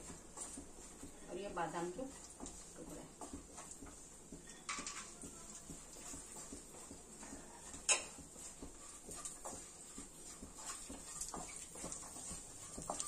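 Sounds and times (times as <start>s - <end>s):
nuts stirred in pan: 0.0s - 13.0s.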